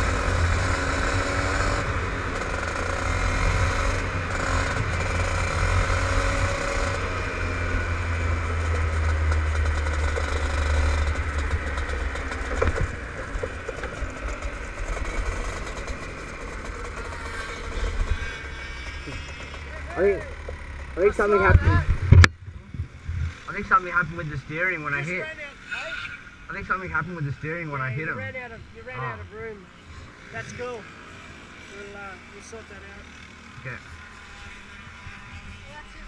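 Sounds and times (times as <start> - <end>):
kart engine running: 0.0 - 36.0.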